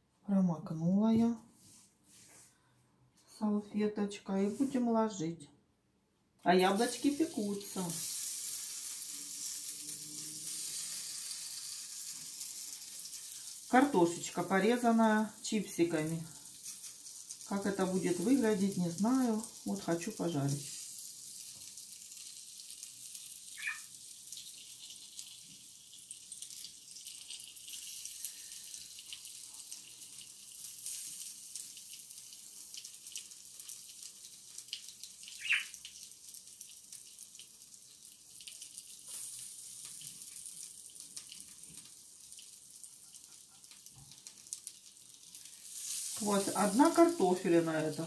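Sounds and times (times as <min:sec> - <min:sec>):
potato slices sizzling in oil: 0:06.4 - 0:48.0.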